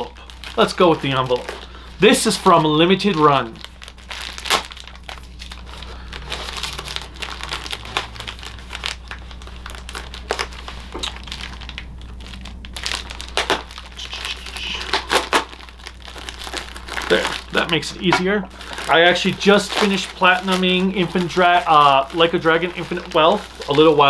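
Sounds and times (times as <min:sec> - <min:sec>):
envelope crinkling and rustling: 0:00.0 - 0:24.0.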